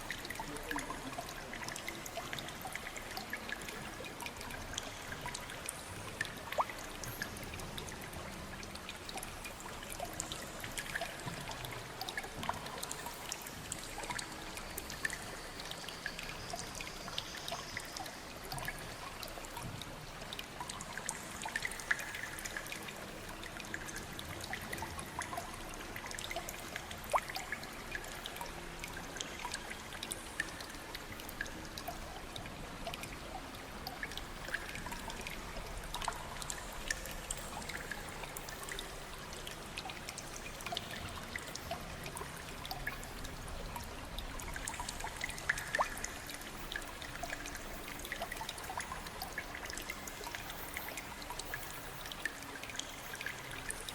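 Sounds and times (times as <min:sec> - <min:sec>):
running water: 0:00.0 - 0:53.9
water drips and splashes: 0:00.0 - 0:53.9.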